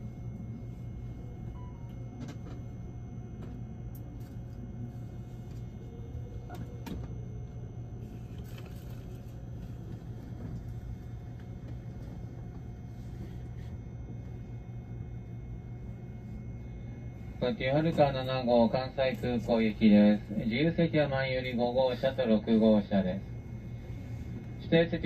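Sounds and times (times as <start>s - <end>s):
train electrical hum and rumble: 0.0s - 25.0s.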